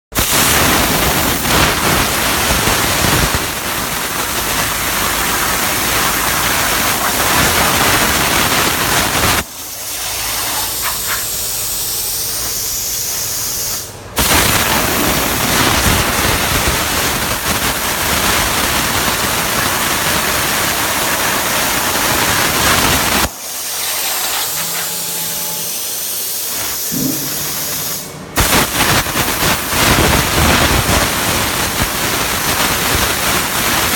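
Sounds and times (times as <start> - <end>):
plasma cutter torch hissing: 0.1 - 33.9.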